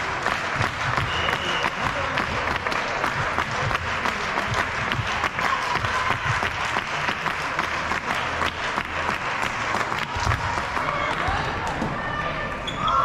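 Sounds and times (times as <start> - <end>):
spectators clapping: 0.0 - 11.8.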